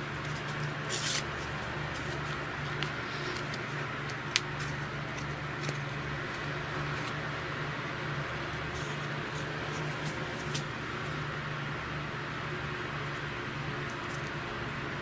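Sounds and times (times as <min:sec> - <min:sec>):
electric fan blowing air: 0:00.0 - 0:15.0.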